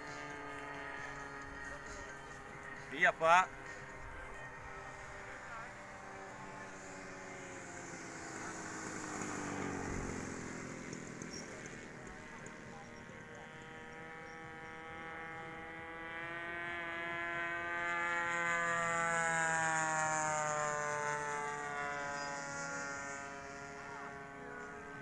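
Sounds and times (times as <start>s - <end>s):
model airplane buzzing drone: 0.0s - 25.0s.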